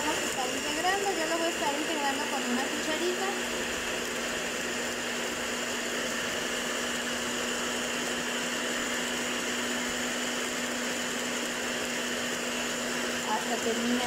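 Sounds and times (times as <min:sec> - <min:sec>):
electric hand mixer running: 0:00.0 - 0:14.0.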